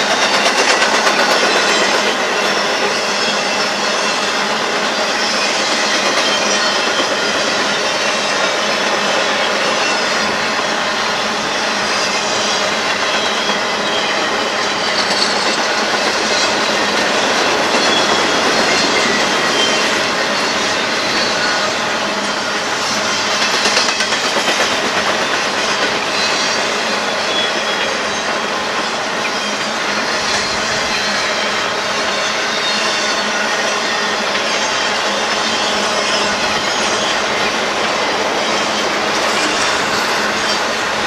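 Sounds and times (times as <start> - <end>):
train wheels clattering on rails: 0.0 - 41.0
high-pitched wheel squeal: 0.1 - 41.0.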